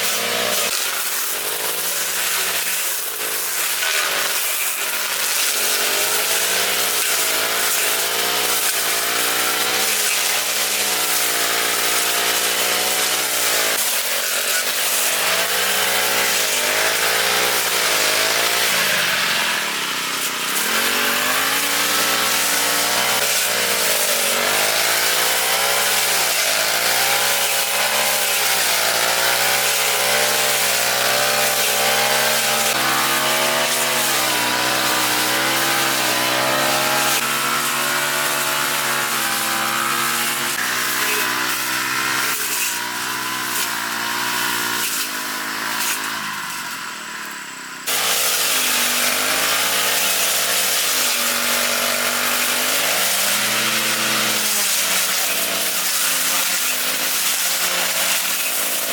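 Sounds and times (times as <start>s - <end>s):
lawn mower engine cutting grass: 0.0s - 58.9s.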